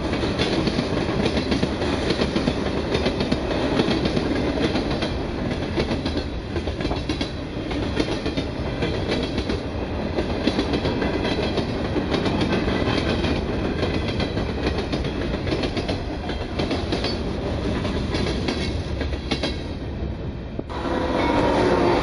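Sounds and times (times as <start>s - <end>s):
wheels clicking on rails: 0.0s - 19.7s
freight train rumbling past: 0.0s - 22.0s.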